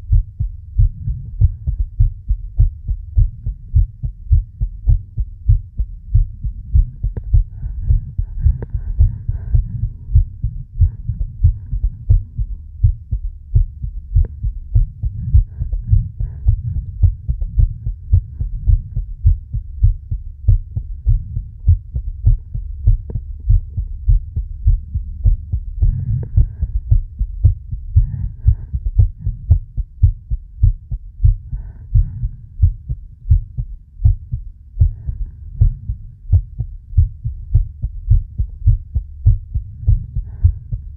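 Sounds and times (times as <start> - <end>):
faint breathing: 0.0 - 40.9
heartbeat thumps: 0.0 - 40.9.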